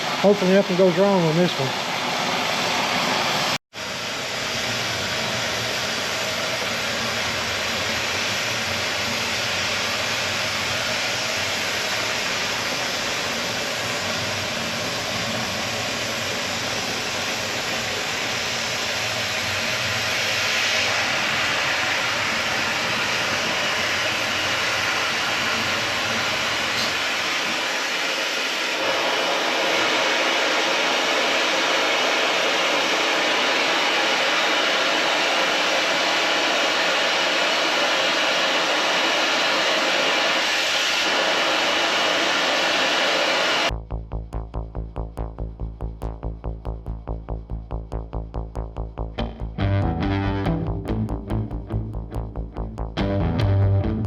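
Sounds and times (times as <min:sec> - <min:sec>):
cutting torch hissing: 0:00.0 - 0:43.7.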